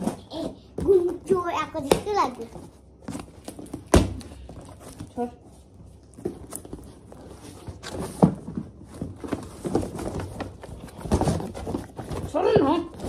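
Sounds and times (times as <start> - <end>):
cardboard and tape rustling: 0.0 - 13.0.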